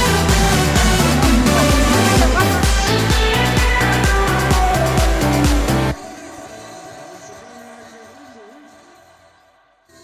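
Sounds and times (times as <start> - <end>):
dance-pop music: 0.0 - 8.9.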